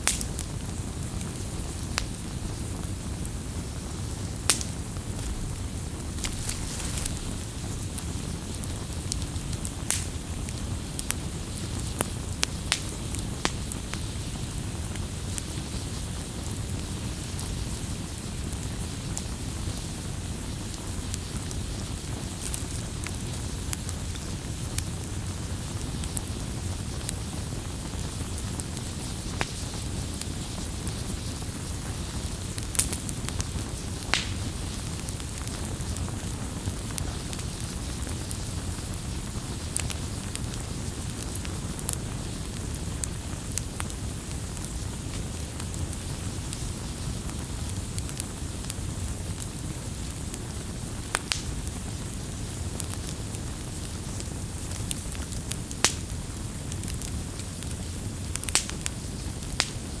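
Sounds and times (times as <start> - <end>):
burning wood crackling and popping: 0.0 - 60.0
rush of flames: 0.0 - 60.0.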